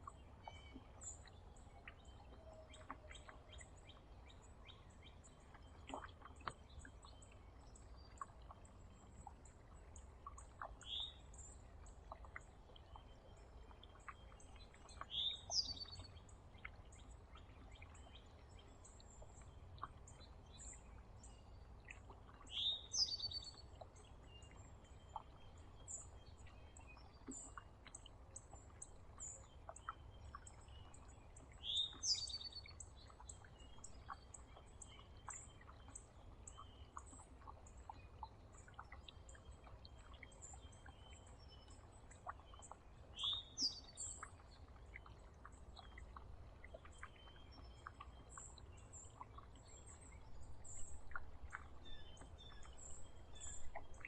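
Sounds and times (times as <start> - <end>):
faint ticks: 0.0 - 54.0.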